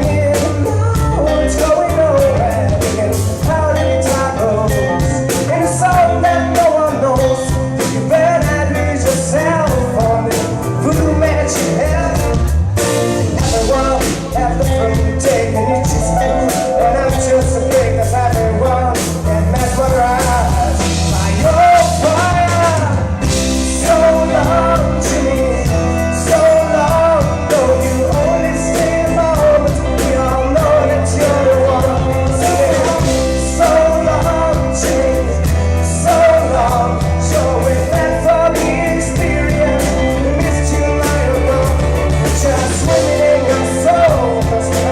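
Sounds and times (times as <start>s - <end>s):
lead singer singing: 0.0s - 44.9s
live rock band: 0.0s - 44.9s
steady drum beat: 0.0s - 44.9s.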